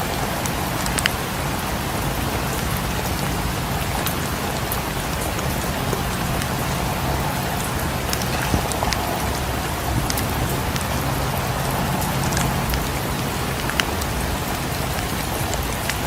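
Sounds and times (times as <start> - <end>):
dense rain falling: 0.0 - 16.0.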